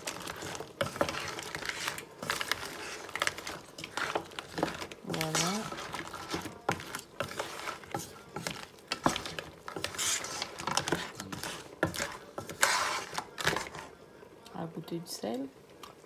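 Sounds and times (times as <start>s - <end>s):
utensil scraping pan: 0.0s - 13.9s.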